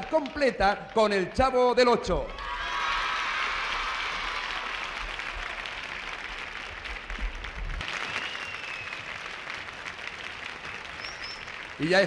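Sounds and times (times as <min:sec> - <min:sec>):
audience applauding: 0:00.0 - 0:01.3, 0:02.3 - 0:12.0.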